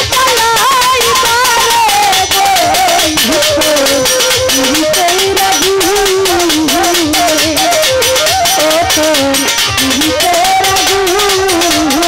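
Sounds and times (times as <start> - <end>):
quick percussion beat: 0.0 - 12.0
woman singing folk song: 0.0 - 12.0.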